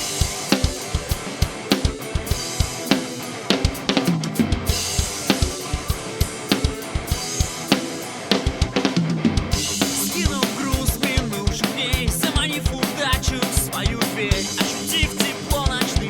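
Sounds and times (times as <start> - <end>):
drum kit rock beat: 0.0 - 16.0
guitar and bass backing: 0.0 - 16.0.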